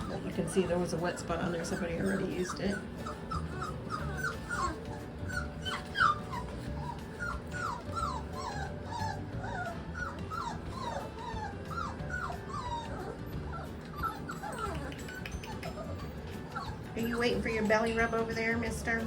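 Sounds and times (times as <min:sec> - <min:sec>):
puppies whining: 0:00.0 - 0:19.0.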